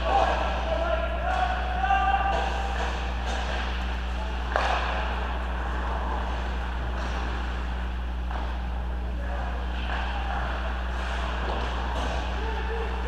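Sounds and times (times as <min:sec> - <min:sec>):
indistinct background noise: 0:00.0 - 0:13.0
steady low hum: 0:00.0 - 0:13.0.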